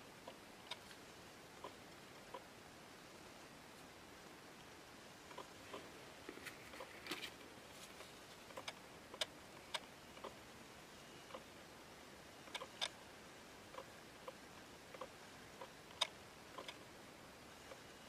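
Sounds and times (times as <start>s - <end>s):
low steady hiss: 0.0s - 18.0s.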